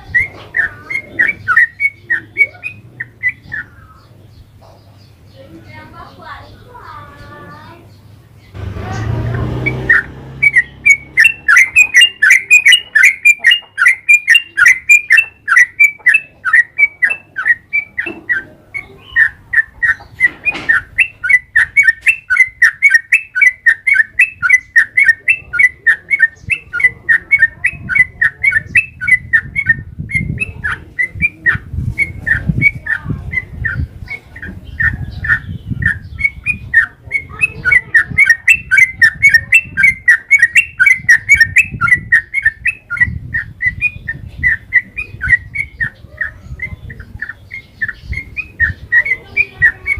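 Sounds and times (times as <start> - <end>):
bird chirping loudly: 0.0 - 49.9.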